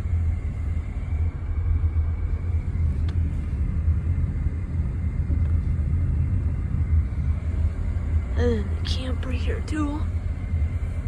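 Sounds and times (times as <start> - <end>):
car driving slowly from inside: 0.0 - 11.0.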